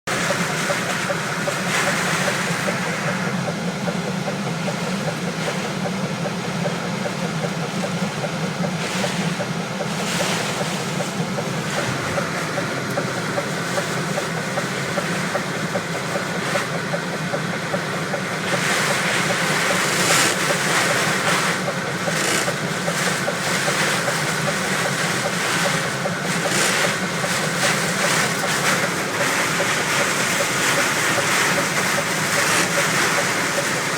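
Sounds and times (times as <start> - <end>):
heavy rain on truck: 0.1 - 33.9.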